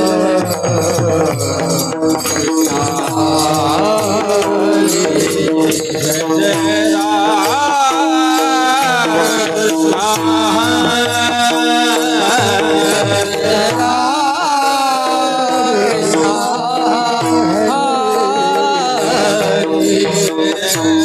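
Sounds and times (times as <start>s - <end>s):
man singing devotional song: 0.0s - 21.0s
rattling percussion: 0.0s - 21.0s
tabla: 0.0s - 21.0s.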